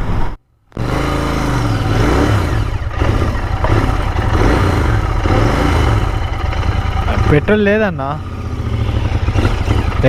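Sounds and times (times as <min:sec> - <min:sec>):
motorcycle engine at low speed: 0:00.0 - 0:10.0.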